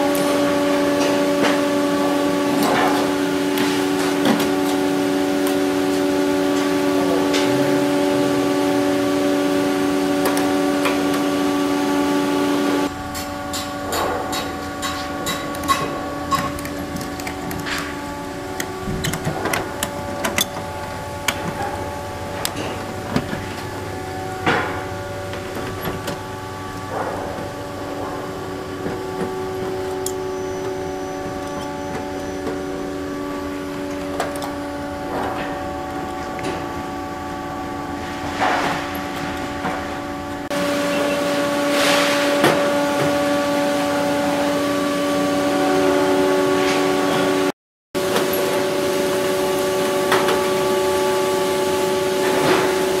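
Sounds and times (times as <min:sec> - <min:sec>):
steady hum of held tones: 0:00.0 - 0:53.0.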